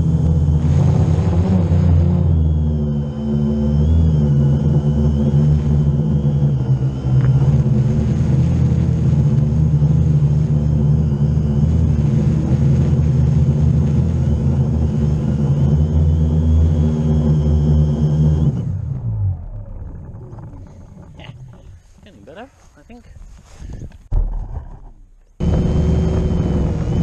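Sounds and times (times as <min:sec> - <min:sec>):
drone propellers humming: 0:00.0 - 0:22.4, 0:24.1 - 0:27.0.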